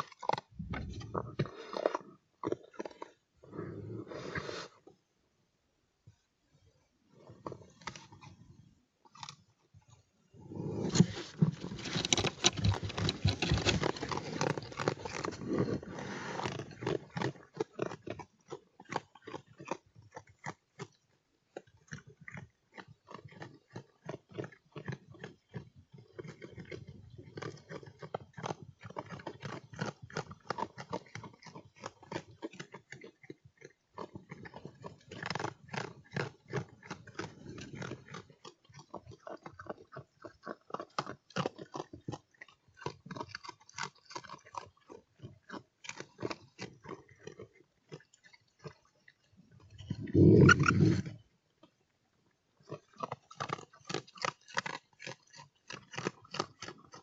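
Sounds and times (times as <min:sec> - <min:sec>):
animal chewing and snuffling: 0:00.0 - 0:05.1, 0:06.0 - 0:57.0.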